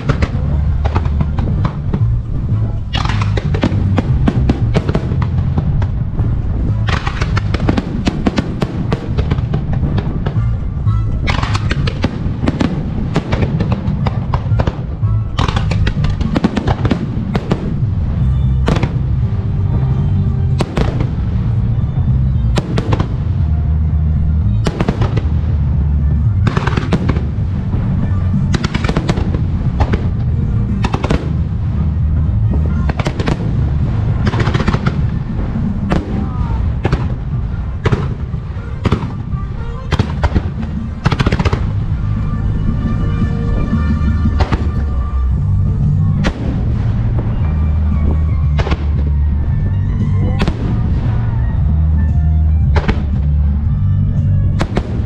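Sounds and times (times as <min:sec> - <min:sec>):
fireworks bursting: 0:00.0 - 0:55.0
low rumble of booms: 0:00.0 - 0:55.0
music playing: 0:00.0 - 0:55.0.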